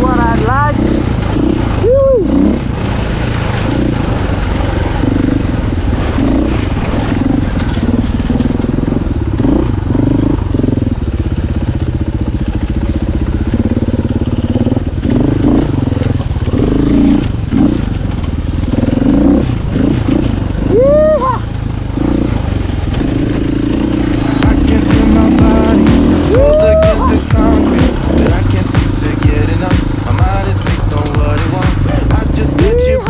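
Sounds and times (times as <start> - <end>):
dirt bike engine revving: 0.0 - 20.8, 21.5 - 33.0.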